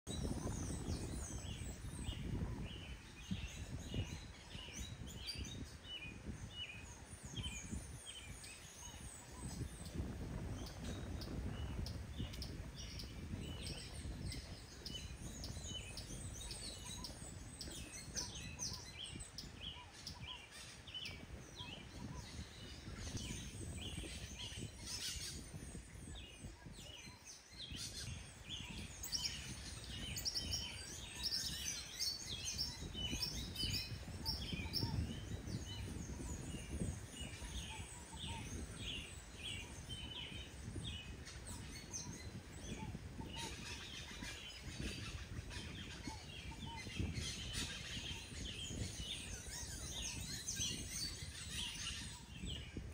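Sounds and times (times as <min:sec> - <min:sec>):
birds chirping: 0:00.1 - 0:52.9.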